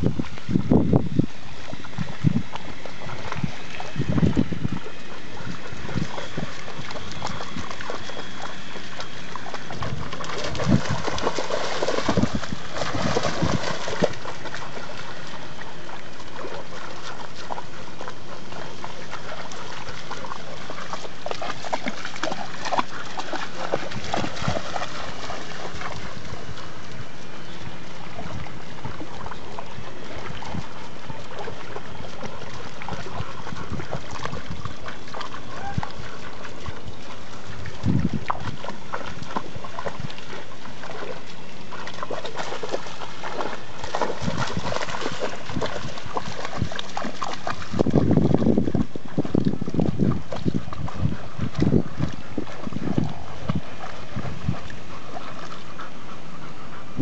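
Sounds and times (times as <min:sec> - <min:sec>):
sea water splashing: 0:01.3 - 0:55.9.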